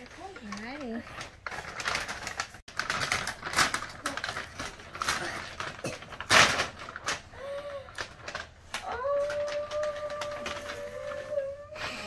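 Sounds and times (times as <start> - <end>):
paper bags rustling: 0.0 - 12.0.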